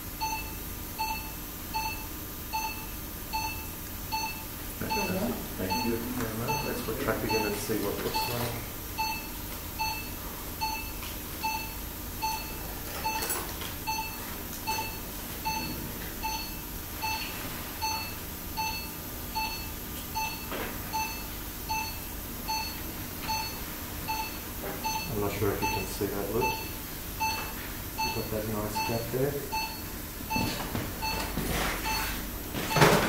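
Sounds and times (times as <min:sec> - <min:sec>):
patient monitor beeping: 0:00.2 - 0:33.0.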